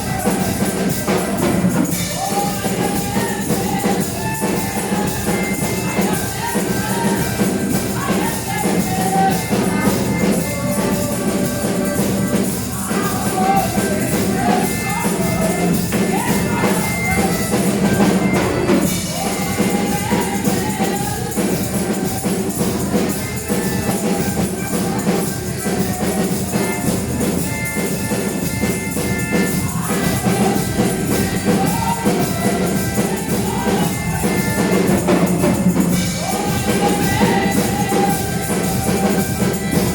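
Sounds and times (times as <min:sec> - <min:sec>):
drums: 0:00.0 - 0:39.9
tambourine: 0:00.0 - 0:39.9
voices singing: 0:00.0 - 0:39.9.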